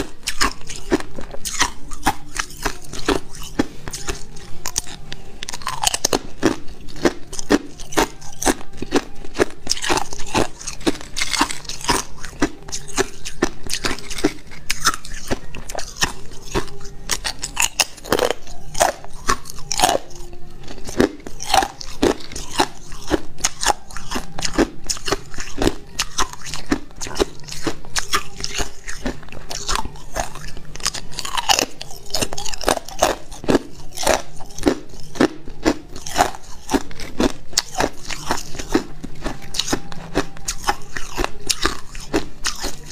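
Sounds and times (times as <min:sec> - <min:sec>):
teeth crunching ice: 0:00.0 - 0:42.9.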